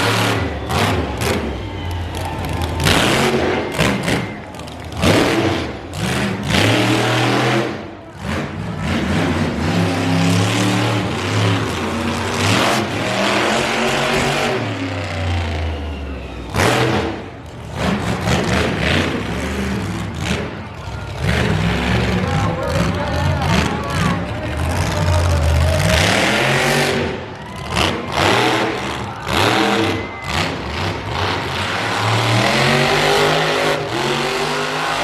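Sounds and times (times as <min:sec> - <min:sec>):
monster truck engine revving: 0:00.0 - 0:35.0.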